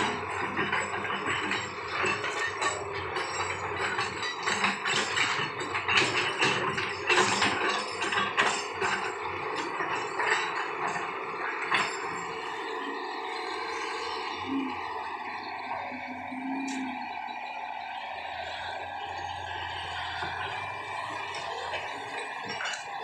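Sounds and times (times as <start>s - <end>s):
metallic clanks and rattles: 0.0s - 15.6s, 18.6s - 23.0s.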